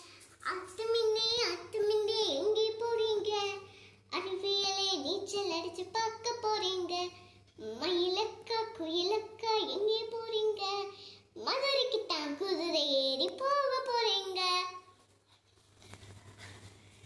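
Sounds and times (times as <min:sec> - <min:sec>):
girl singing: 0:00.0 - 0:15.0.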